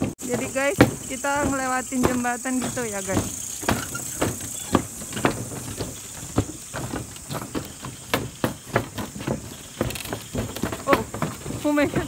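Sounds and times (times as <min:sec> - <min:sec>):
footsteps on bridge deck: 0:00.0 - 0:12.0
night insects chirring: 0:00.0 - 0:12.0.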